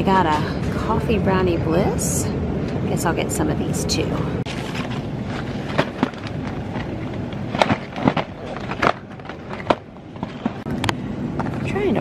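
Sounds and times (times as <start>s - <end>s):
steady store hum: 0.0s - 12.0s.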